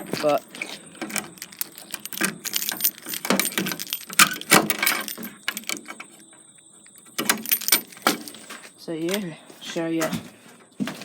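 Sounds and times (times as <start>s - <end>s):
small metal objects jangling: 0.0s - 9.4s.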